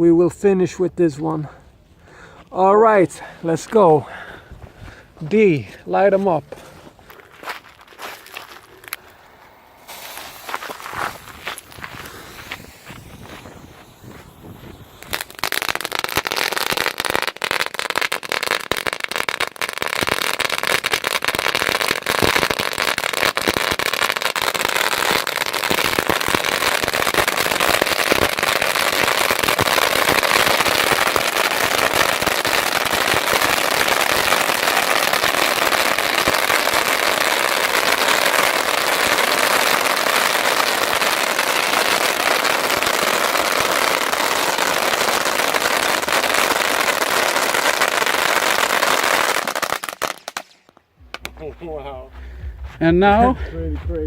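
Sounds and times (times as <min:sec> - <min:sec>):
firework fountains crackling: 0:05.3 - 0:52.2.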